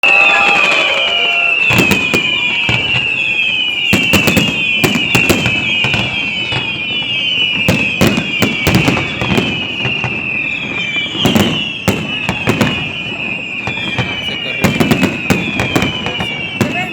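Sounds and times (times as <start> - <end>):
fireworks bangs and crackles: 0.0 - 16.9
high falling whistle: 0.0 - 16.9.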